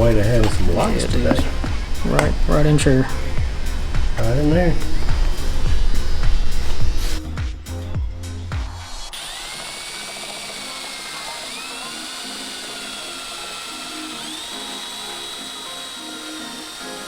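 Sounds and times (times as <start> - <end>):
power drill whining: 0.0 - 17.0.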